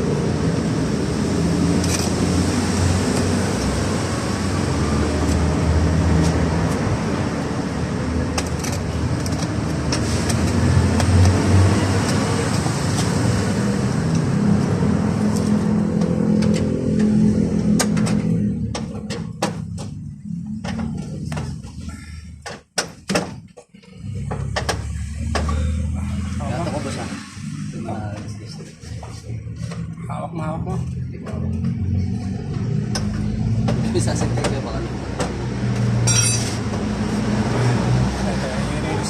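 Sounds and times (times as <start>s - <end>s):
vehicle engine humming: 0.0s - 39.0s.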